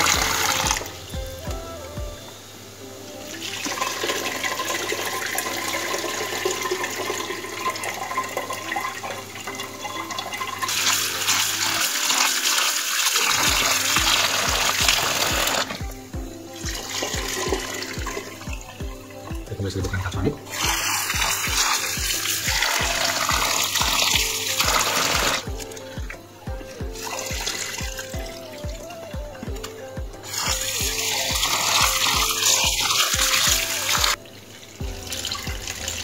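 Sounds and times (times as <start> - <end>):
water splashing: 0.0 - 2.0, 3.2 - 36.0
background music with beat: 0.0 - 36.0.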